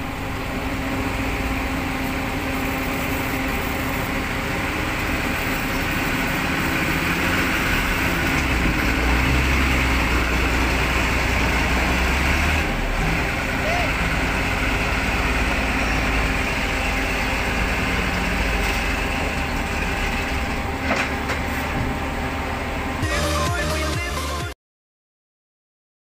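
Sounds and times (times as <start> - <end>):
vehicle engine running: 0.0 - 24.4.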